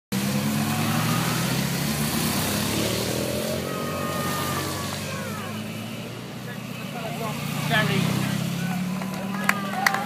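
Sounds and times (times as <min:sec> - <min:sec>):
tyres hissing on wet road: 0:00.2 - 0:08.8
motorcycle passing: 0:00.2 - 0:10.0.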